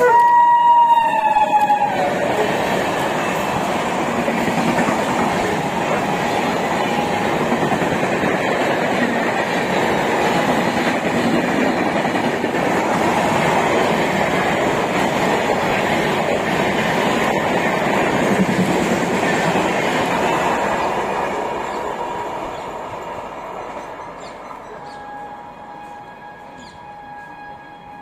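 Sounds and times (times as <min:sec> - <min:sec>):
train wheels clattering on rails: 0:01.2 - 0:25.0.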